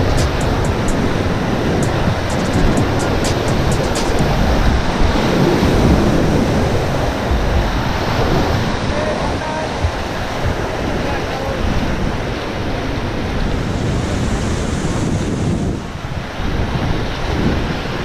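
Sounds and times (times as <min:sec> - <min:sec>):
roar of river rapids: 0:00.0 - 0:18.0
wind buffeting microphone: 0:00.0 - 0:18.0.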